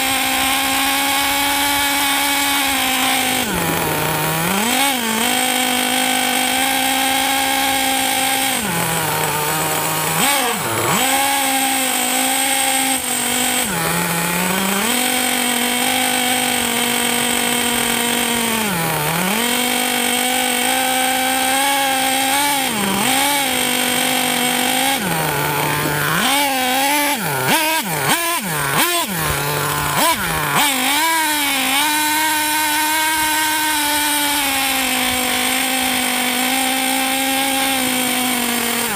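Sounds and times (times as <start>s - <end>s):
small two-stroke engine revving: 0.0s - 38.9s.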